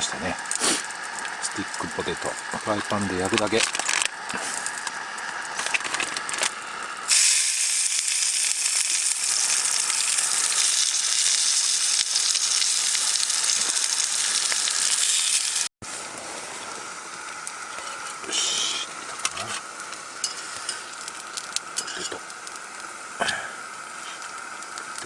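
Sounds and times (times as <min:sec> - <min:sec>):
potatoes sizzling in a frying pan: 0:00.1 - 0:25.0.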